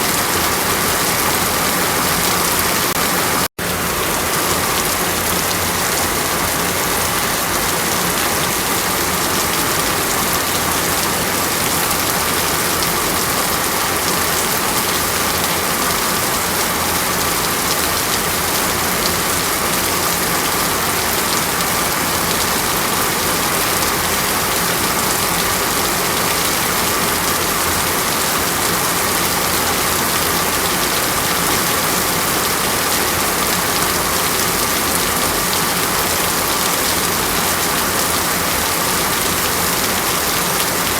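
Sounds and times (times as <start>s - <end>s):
water falling steadily: 0.0s - 40.9s.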